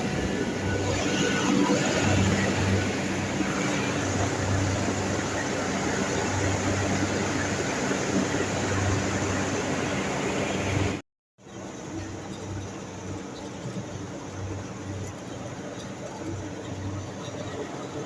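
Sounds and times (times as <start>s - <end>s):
chiller machinery running: 0.0s - 18.0s.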